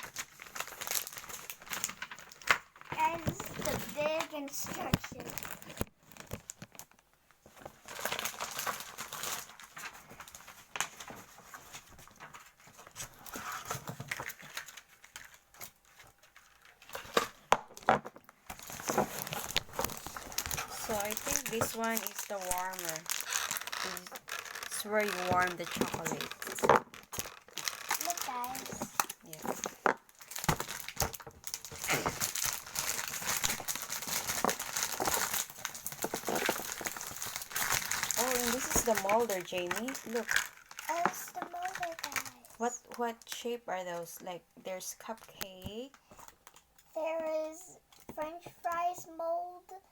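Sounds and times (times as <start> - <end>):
packaging rustling and crinkling: 0.0 - 43.6, 45.1 - 46.8.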